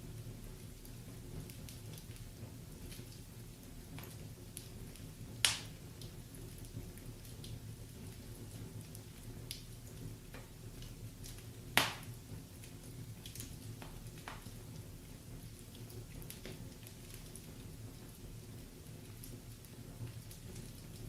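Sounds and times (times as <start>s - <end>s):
wood fire crackling: 0.0s - 21.0s
loud sharp crack of fire: 0.2s - 21.0s.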